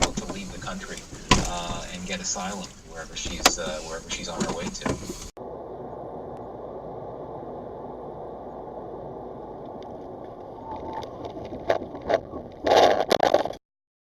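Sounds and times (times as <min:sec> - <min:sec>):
car road and engine noise: 0:00.0 - 0:12.7.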